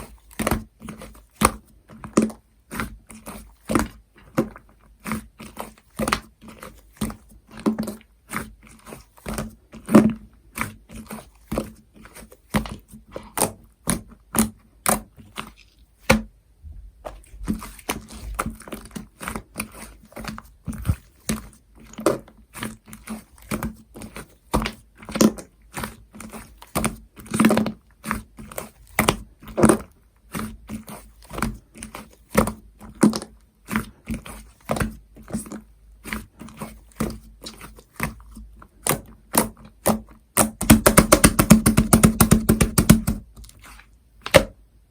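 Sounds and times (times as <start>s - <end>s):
slime squishing with sticky pops: 0.0s - 16.4s, 17.0s - 44.7s.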